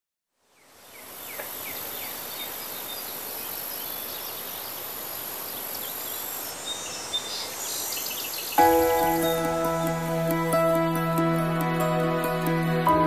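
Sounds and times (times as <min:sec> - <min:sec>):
insect drone: 0:00.4 - 0:11.8.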